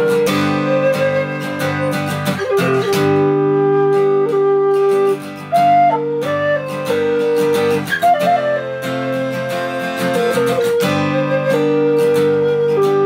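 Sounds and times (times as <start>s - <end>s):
flute playing slow melody: 0.0s - 13.0s
strummed acoustic guitar: 0.0s - 13.0s.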